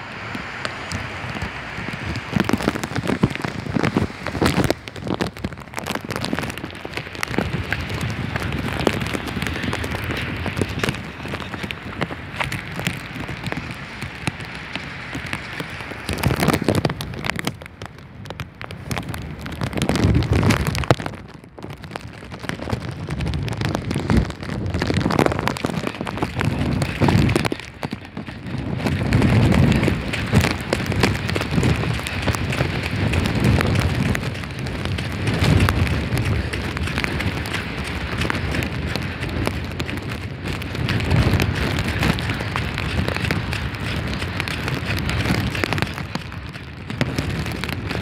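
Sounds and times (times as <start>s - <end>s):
heavy rain pelting: 0.0s - 48.0s
wind buffeting microphone: 0.0s - 48.0s.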